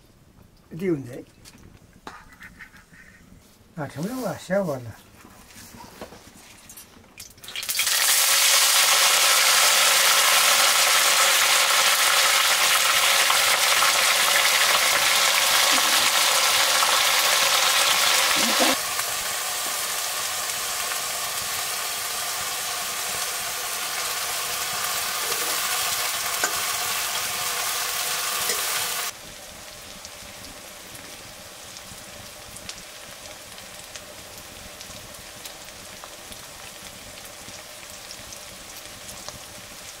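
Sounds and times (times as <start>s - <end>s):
food sizzling in hot oil: 7.2s - 40.0s.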